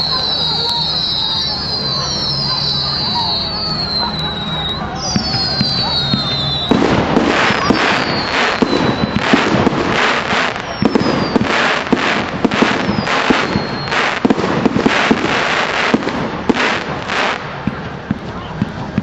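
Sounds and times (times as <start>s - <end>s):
fireworks bangs and crackles: 0.0s - 19.0s
fireworks whistles falling in pitch: 0.0s - 19.0s.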